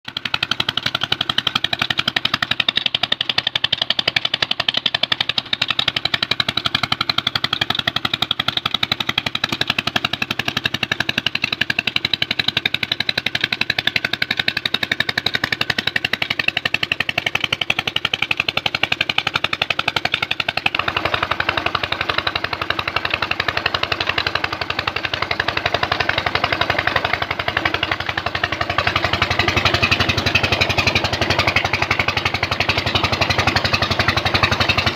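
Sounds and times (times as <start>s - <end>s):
diesel engine chugging: 0.0s - 34.9s
water pouring into concrete channel: 0.3s - 34.9s.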